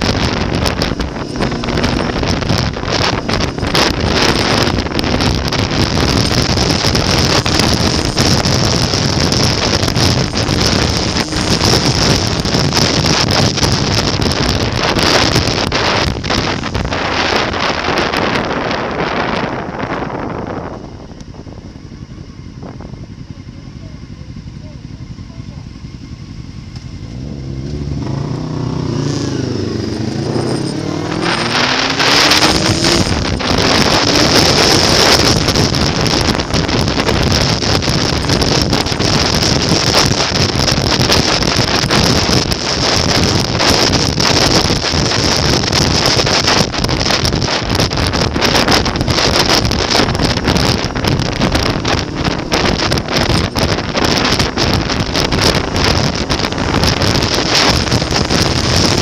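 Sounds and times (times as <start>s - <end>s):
motorcycle engines revving: 0.0s - 59.0s
wind buffeting microphone: 0.0s - 59.0s.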